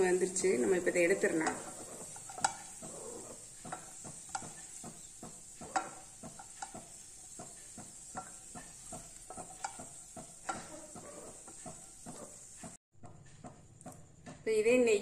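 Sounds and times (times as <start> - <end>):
faint sizzle: 0.0 - 12.8
spatula scooping in pan: 0.0 - 12.8
hot oil crackling and popping: 0.0 - 14.4.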